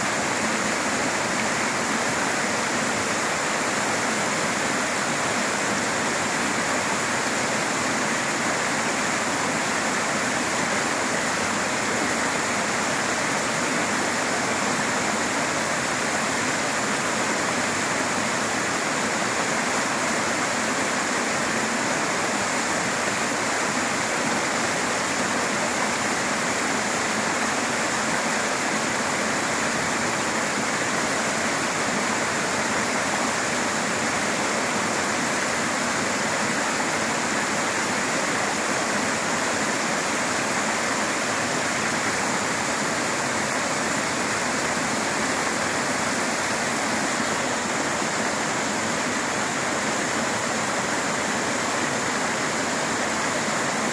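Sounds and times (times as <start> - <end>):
waterfall rushing into pool: 0.0 - 53.9.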